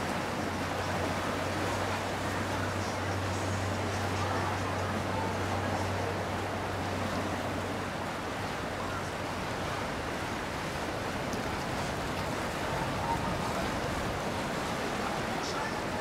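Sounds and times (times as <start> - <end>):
boat engine hum: 0.0 - 16.0
water rushing: 0.0 - 16.0
wind: 0.0 - 16.0.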